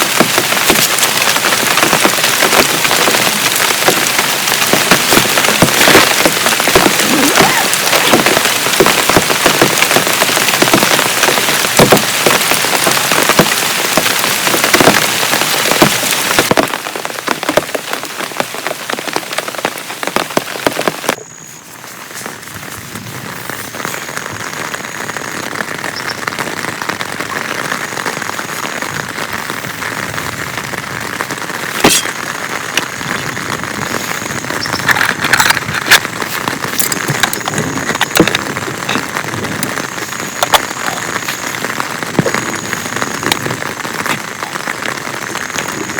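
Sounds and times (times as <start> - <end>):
heavy rain pattering: 0.0 - 45.9.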